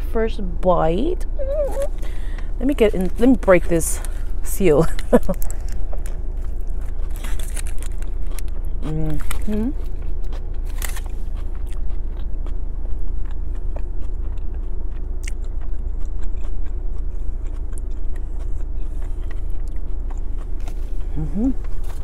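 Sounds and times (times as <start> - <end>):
low rumble inside car: 0.0 - 22.0
close-up chewing: 1.4 - 22.0.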